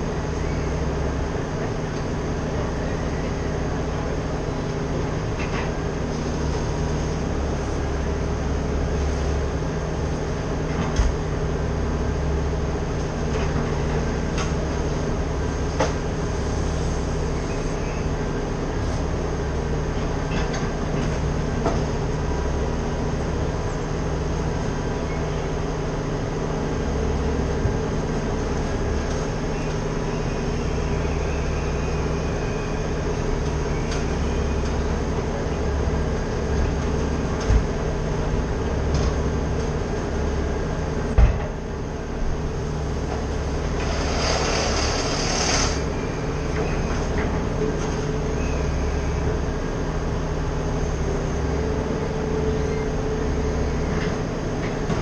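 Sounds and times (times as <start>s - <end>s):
heavy engine running steadily: 0.0s - 55.0s.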